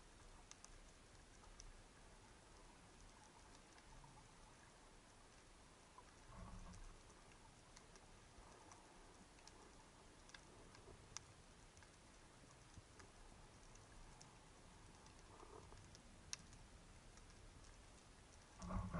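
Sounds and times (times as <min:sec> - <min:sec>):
faint sharp clicks underwater: 0:00.0 - 0:18.9.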